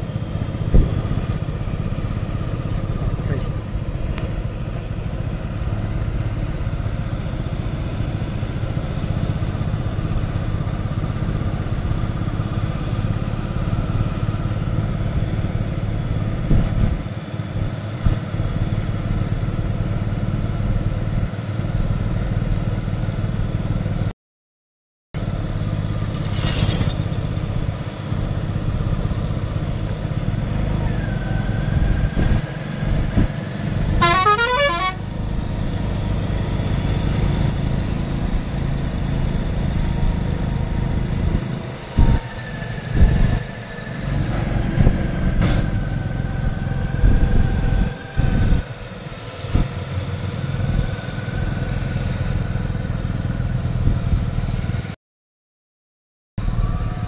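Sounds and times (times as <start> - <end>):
tractor diesel engine running: 0.0 - 24.1, 25.2 - 55.0.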